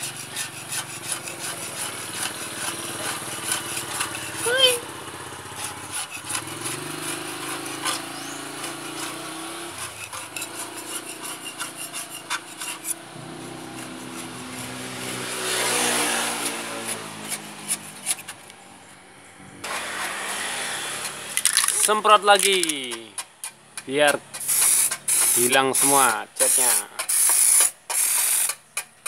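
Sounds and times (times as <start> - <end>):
brush scrubbing metal: 0.0 - 4.8, 5.4 - 18.6, 21.6 - 23.2, 24.1 - 28.6
small engine running: 0.0 - 28.7.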